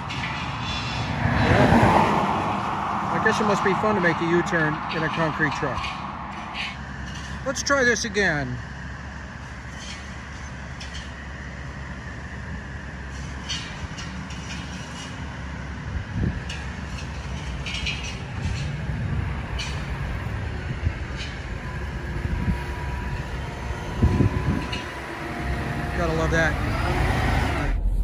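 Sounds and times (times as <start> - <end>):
truck engine rumble: 0.0 - 28.0.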